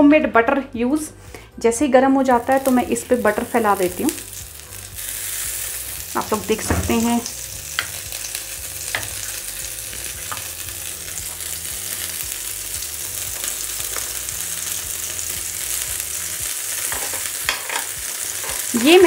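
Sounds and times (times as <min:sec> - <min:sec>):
butter sizzling on hot plate: 0:02.4 - 0:19.0.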